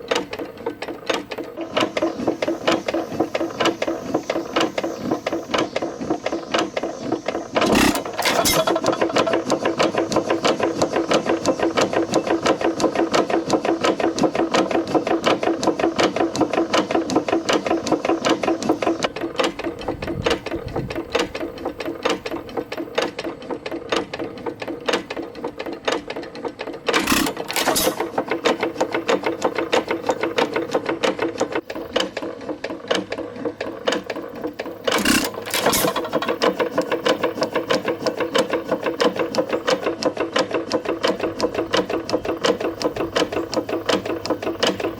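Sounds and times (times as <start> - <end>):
engine clattering: 0.0 - 44.9.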